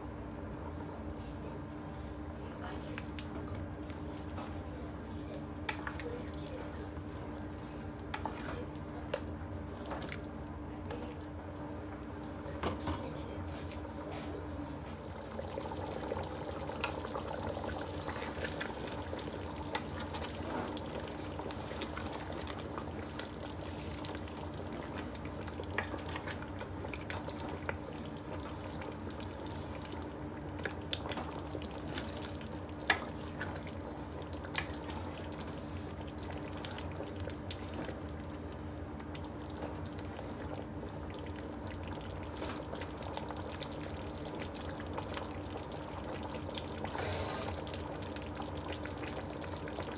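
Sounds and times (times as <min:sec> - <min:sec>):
faint steady hum: 0:00.0 - 0:49.9
stew sizzling and bubbling: 0:02.3 - 0:12.6, 0:13.4 - 0:49.9.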